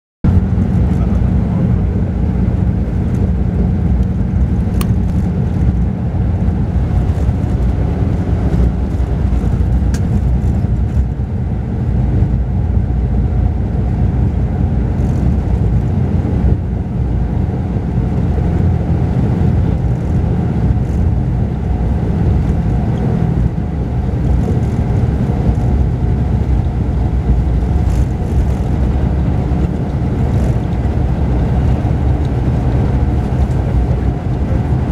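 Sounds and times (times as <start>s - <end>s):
bus engine and road rumble: 0.2s - 34.9s.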